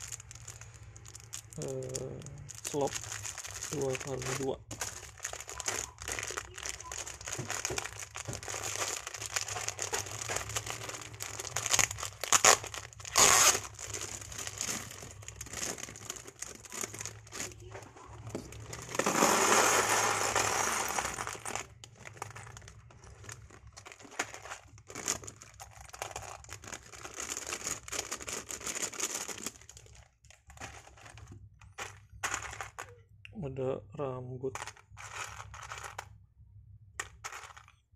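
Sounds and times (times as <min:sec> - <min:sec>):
plastic bags crinkling: 0:00.0 - 0:33.0, 0:34.4 - 0:36.2, 0:37.0 - 0:37.9.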